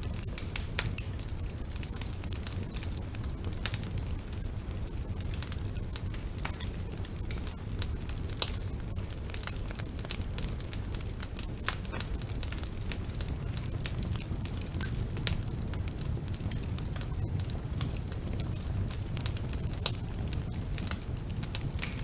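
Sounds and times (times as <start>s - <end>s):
wood fire rumbling and crackling: 0.0s - 22.0s.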